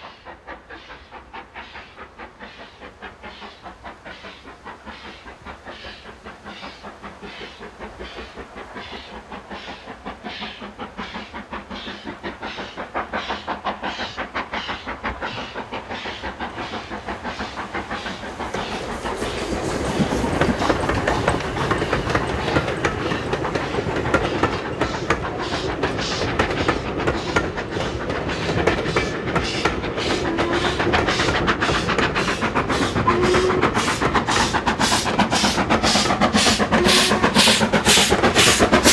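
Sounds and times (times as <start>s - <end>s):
steam locomotive chuffing: 0.0s - 38.9s.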